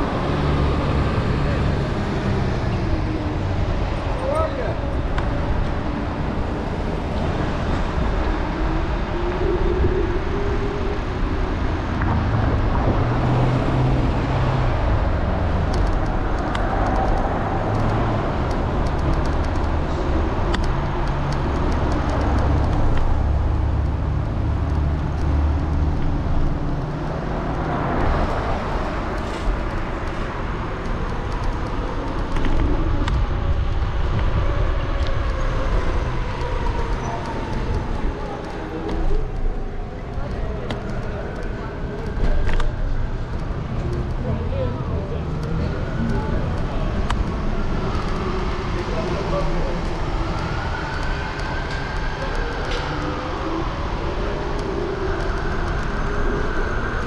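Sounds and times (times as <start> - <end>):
road noise low rumble: 0.0 - 57.0.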